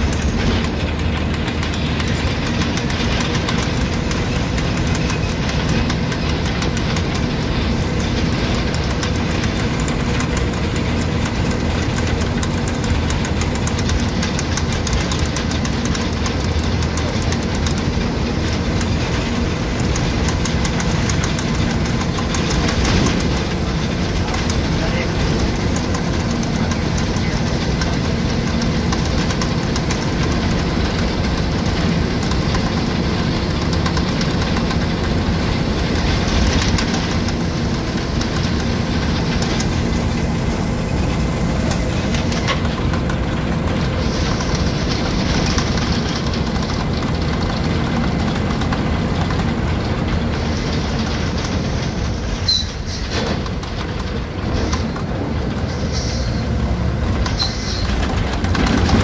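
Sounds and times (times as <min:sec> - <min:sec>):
bus engine running: 0:00.0 - 0:59.0
rattling of bus body: 0:00.0 - 0:59.0
road noise: 0:00.0 - 0:59.0.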